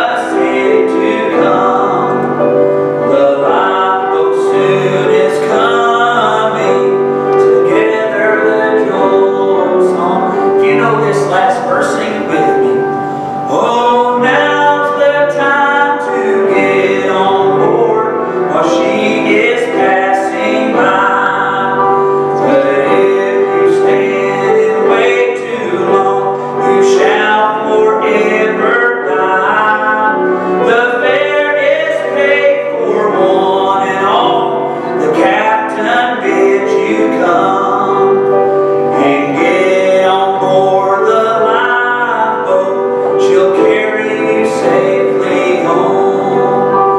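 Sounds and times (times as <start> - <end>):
grand piano: 0.0 - 46.9
man singing gospel song: 0.0 - 46.9.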